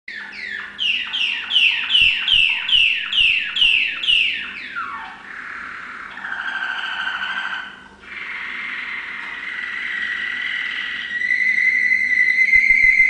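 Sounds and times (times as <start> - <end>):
canary singing: 0.1 - 13.0.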